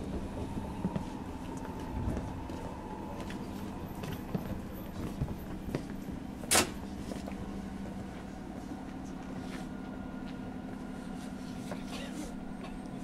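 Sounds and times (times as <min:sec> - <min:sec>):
train cabin low hum: 0:00.0 - 0:13.0.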